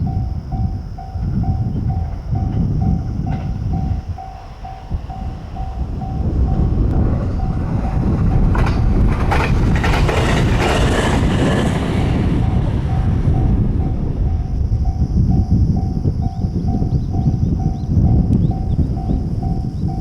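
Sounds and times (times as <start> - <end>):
train rumble: 0.0 - 20.0
train wheels clacking on rail joints: 0.0 - 20.0.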